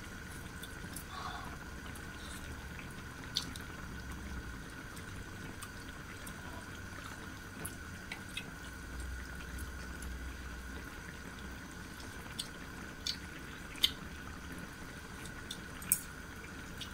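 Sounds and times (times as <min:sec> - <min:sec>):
faint hum: 0:00.0 - 0:16.9.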